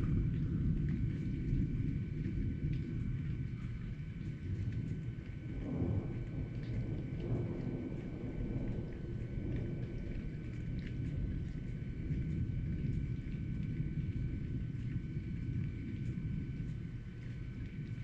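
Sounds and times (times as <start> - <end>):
faint rain ticks: 0.0 - 18.0
thunder rumbling: 0.0 - 18.0.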